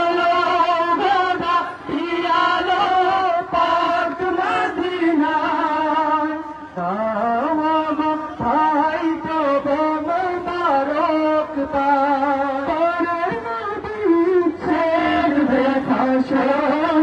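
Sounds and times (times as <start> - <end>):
person singing devotional song: 0.0 - 17.0.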